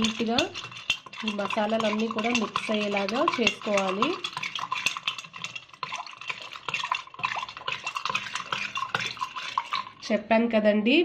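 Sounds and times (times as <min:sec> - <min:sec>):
spoon clinking in glass with ice: 0:00.0 - 0:10.0.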